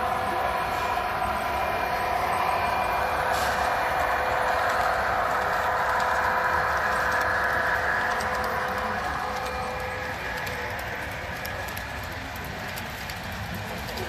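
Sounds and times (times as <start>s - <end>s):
model train motor whirring: 0.0s - 14.0s.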